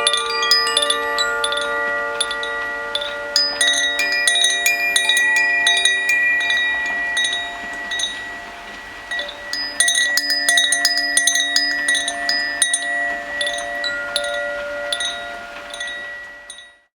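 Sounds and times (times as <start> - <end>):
chimes ringing: 0.0 - 16.9
rain hiss: 0.0 - 16.9.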